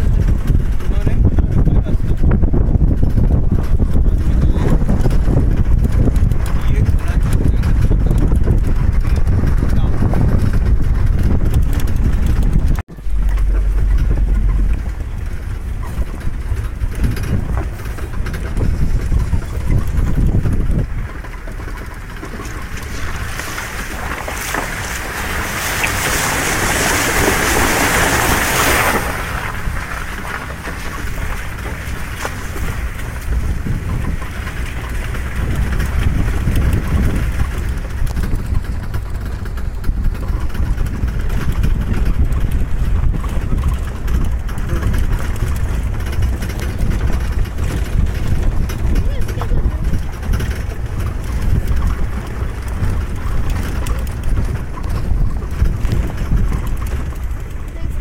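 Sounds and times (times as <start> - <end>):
engine and tyre rumble: 0.0 - 58.0
wind buffeting microphone: 0.0 - 58.0.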